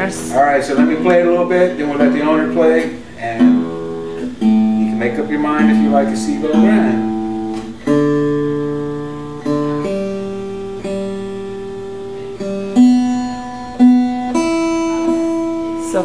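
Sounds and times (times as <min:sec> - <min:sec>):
acoustic guitar chords ringing: 0:00.0 - 0:16.0.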